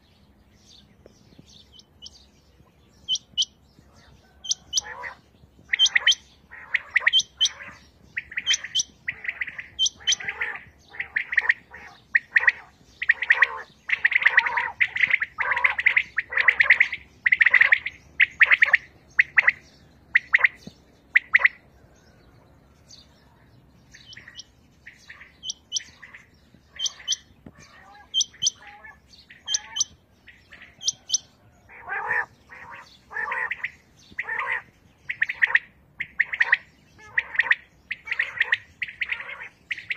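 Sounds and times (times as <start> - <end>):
quails chirping: 0.0 - 39.9.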